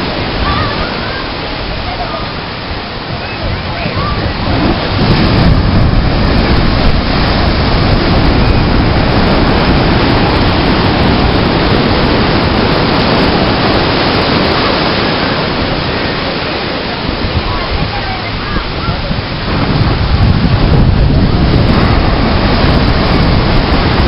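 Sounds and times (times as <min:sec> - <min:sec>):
ocean wave breaking: 0:00.0 - 0:24.0.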